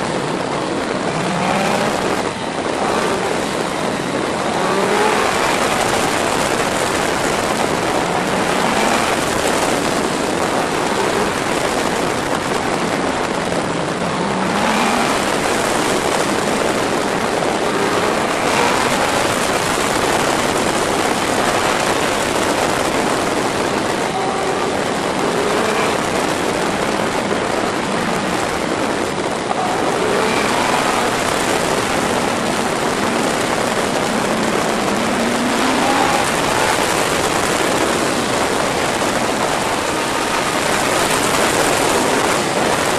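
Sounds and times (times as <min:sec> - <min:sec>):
motorcycle engine: 0:00.0 - 0:42.9
wind rushing over microphone: 0:00.0 - 0:42.9.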